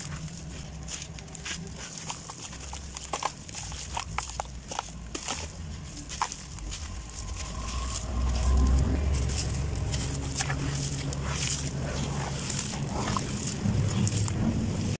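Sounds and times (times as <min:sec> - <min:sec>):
sand crunching and crackling: 0:00.0 - 0:14.9
steady low rumble: 0:00.0 - 0:14.9.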